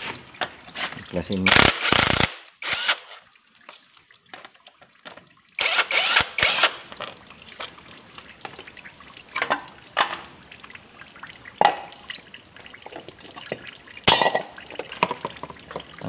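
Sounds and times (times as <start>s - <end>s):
water trickling and dripping: 0.0s - 1.6s, 2.4s - 16.0s.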